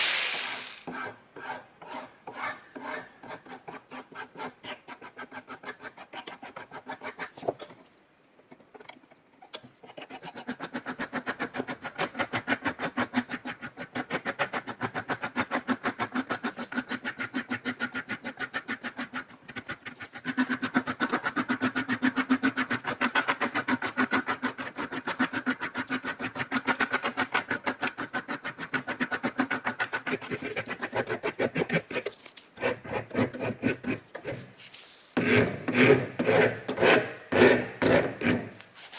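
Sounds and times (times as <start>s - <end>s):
scraping rusty metal by hand: 0.8s - 7.6s, 8.6s - 38.6s.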